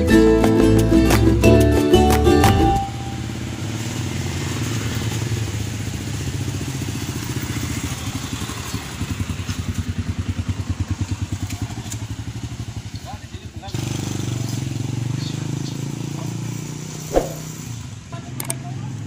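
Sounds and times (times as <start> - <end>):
small motorcycle engine: 2.8 - 19.0.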